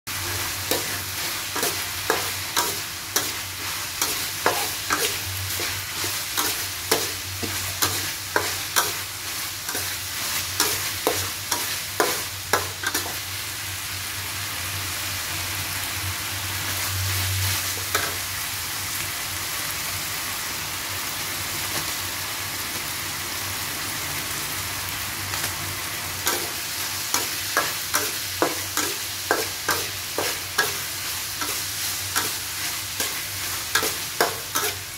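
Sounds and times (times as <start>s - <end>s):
meat sizzling in a wok: 0.1s - 34.9s.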